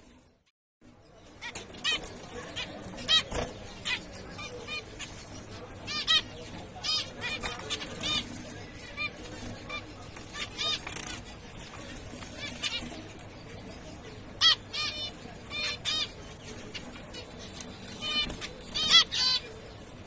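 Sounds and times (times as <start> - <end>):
finch calls: 1.4 - 11.3, 12.0 - 19.8.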